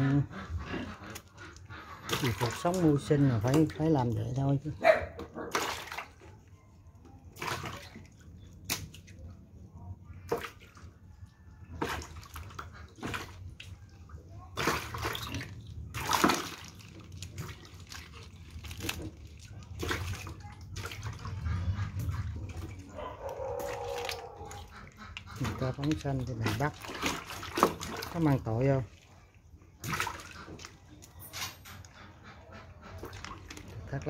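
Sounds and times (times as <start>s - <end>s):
water splashing and sloshing: 0.0s - 34.0s.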